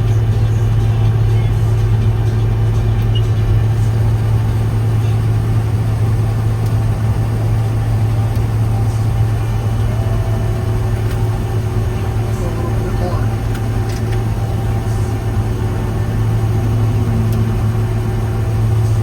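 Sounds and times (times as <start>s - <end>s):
combine engine drone: 0.0s - 19.0s.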